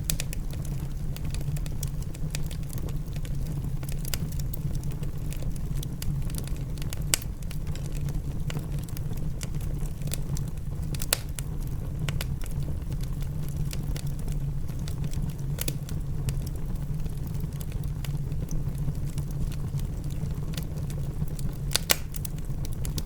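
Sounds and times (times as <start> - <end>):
rain pattering: 0.0 - 23.0
wood fire crackling: 0.0 - 23.0.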